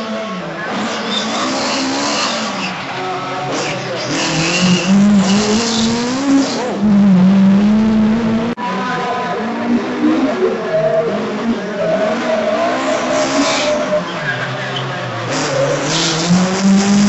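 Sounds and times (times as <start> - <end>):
rally car engine at high revs: 0.0 - 17.0
engine revving up and down: 0.6 - 2.7, 3.4 - 17.0.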